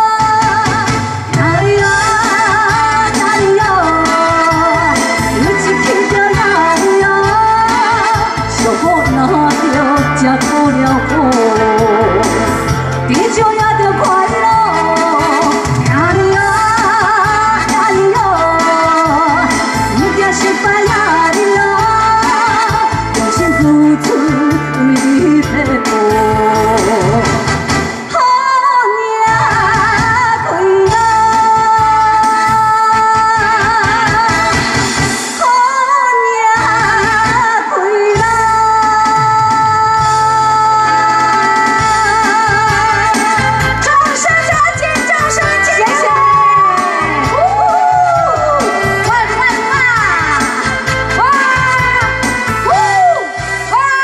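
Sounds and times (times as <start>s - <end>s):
backing music with beat and bass: 0.0s - 54.0s
woman singing into microphone: 0.0s - 54.0s.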